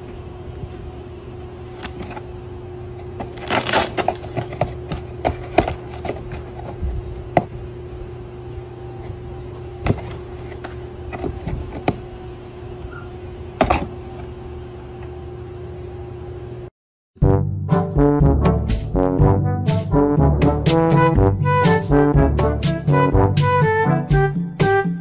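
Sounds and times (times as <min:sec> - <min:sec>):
steady low hum: 0:00.0 - 0:24.6.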